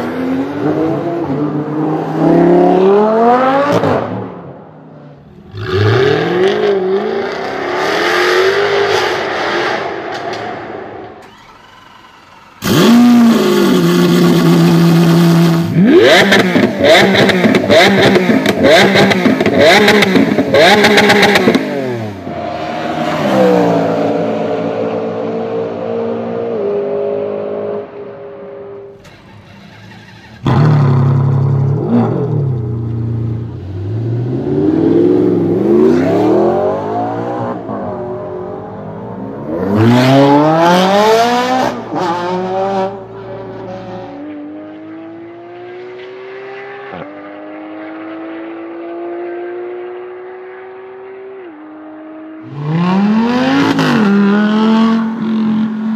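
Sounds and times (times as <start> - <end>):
car engines at full throttle: 0.0 - 55.9.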